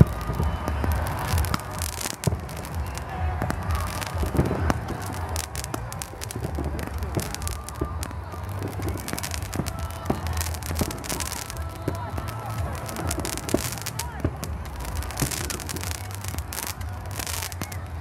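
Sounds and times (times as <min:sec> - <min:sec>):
distant fireworks popping and crackling: 0:00.0 - 0:18.0.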